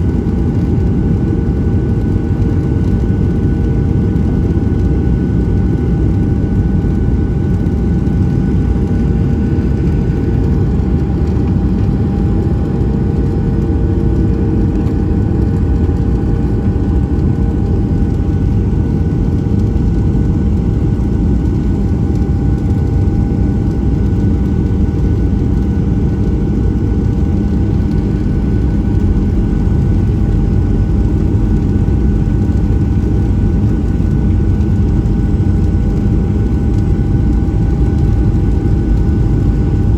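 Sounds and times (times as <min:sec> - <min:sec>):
constant whining tones: 0:00.0 - 0:39.9
jet cabin rumble: 0:00.0 - 0:39.9.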